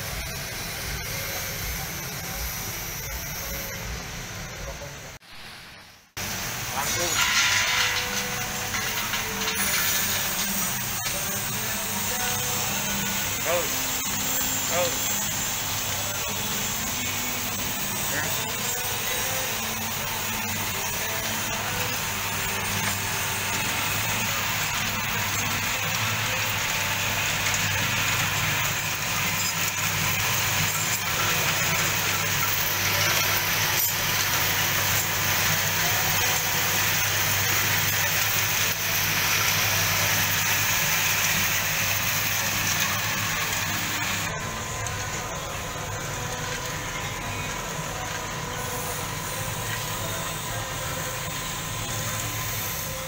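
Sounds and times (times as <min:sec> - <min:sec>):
roasting machine humming: 0:00.0 - 0:53.0.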